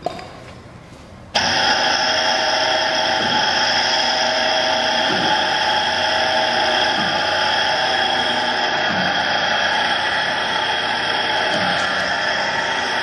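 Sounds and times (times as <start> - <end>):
knife grinder whining: 1.4 - 13.0.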